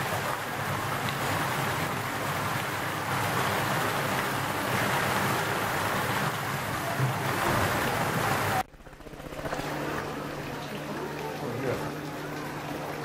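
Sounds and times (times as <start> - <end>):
water streams splashing into pond: 0.0 - 13.0.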